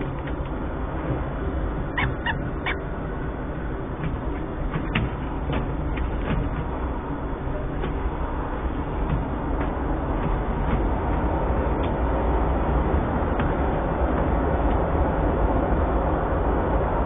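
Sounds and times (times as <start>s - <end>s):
background rumble and hiss: 0.0s - 17.0s.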